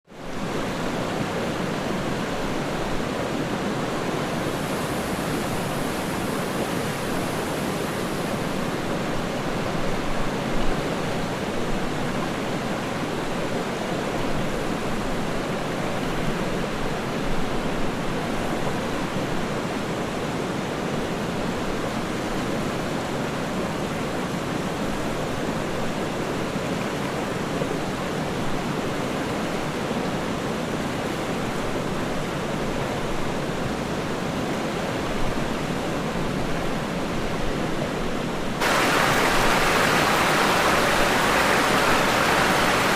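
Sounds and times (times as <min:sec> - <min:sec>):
waterfall and river rushing: 0:00.1 - 0:42.9.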